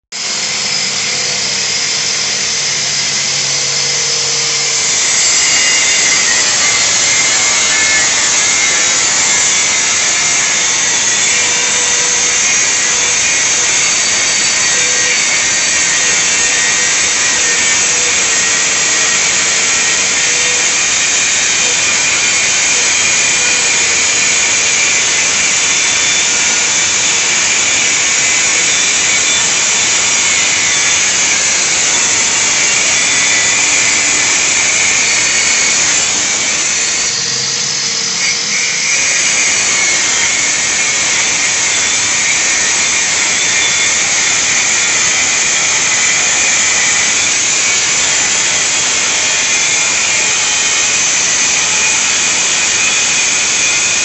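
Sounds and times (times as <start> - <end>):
vacuum cleaner running: 0.0 - 54.0
power tool cutting ceramic tile: 0.1 - 54.0.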